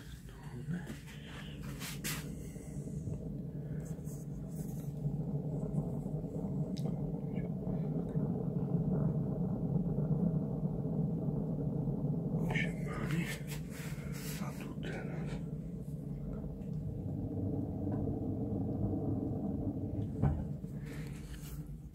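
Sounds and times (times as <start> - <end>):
stove fire low rumble: 0.0 - 21.9.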